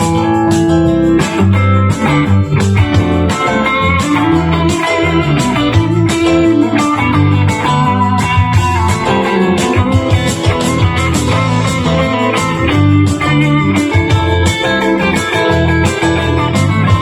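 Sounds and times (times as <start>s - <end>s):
bass: 0.0s - 17.0s
overdriven electric guitar: 0.0s - 17.0s
steady drum beat: 0.0s - 17.0s.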